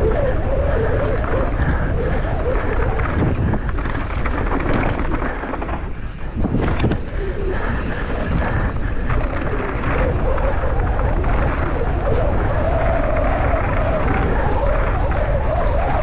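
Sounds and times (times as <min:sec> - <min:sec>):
mountain bike rattling and knocking: 0:00.0 - 0:16.0
wind buffeting microphone: 0:00.0 - 0:16.0.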